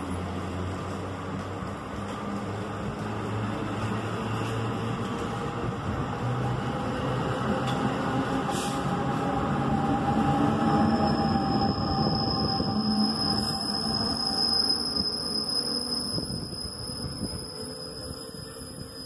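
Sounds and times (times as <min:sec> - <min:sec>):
train wheels rumbling and clattering: 0:00.0 - 0:19.0.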